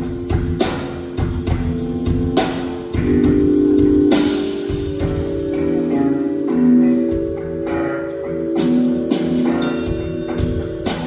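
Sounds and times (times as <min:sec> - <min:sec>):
drum kit hits: 0:00.0 - 0:11.0
rock band playing live: 0:00.0 - 0:11.0.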